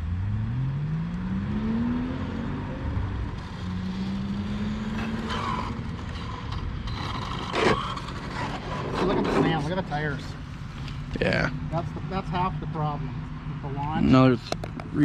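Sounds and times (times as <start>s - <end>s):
vehicle engine accelerating: 0.0s - 15.0s.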